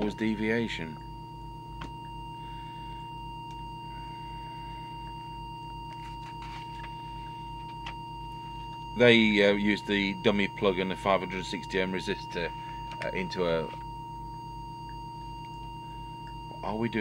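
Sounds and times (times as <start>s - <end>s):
low hum: 0.0s - 17.0s
steady test tone: 0.0s - 17.0s.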